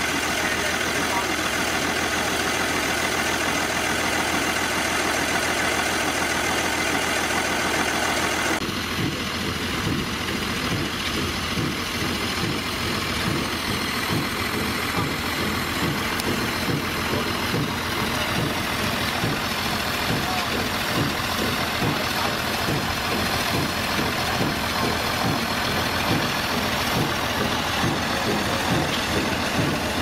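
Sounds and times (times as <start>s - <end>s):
diesel engine clattering: 0.0s - 30.0s
diesel engine idling: 0.0s - 30.0s.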